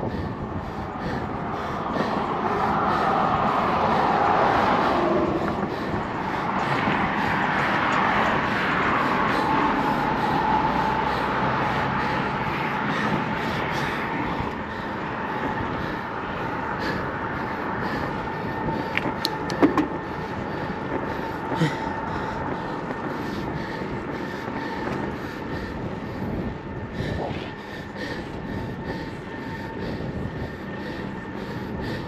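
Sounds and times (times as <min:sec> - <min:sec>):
road traffic tyre noise: 0:00.0 - 0:32.0.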